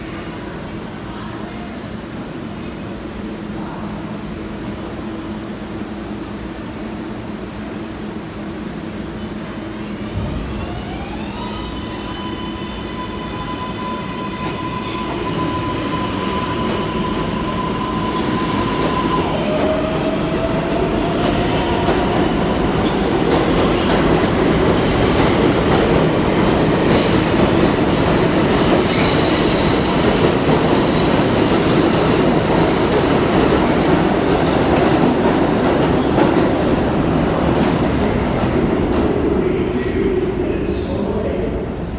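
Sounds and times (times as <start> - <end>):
subway train electric whine: 0.0 - 41.9.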